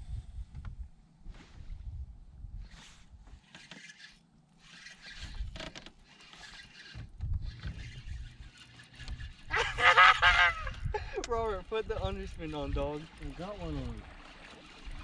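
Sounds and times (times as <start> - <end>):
fishing rods and reels swishing: 2.6 - 15.0.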